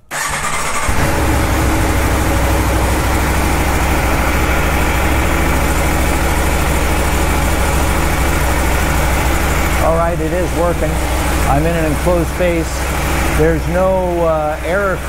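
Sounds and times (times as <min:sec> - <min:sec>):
motorcycle engine idling: 0:00.8 - 0:15.0.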